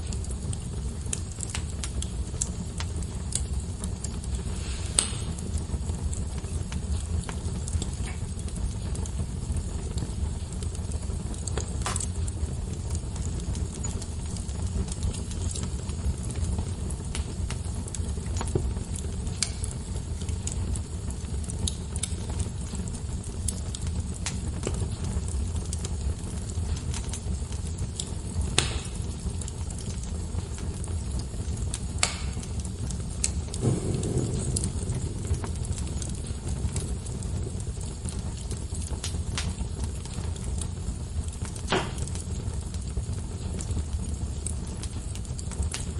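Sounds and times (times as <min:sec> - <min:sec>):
fire burning with low rush: 0:00.0 - 0:45.9
logs crackling and popping: 0:00.0 - 0:45.9.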